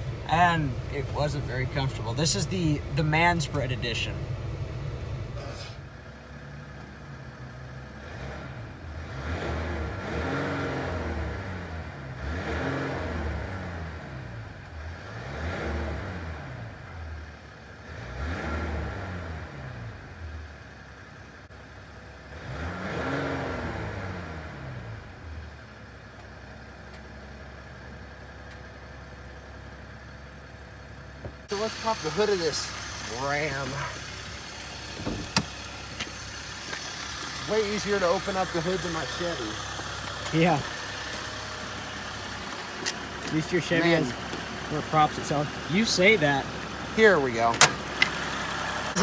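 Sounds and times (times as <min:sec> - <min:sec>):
diesel engine idling and revving: 0:00.0 - 0:49.0.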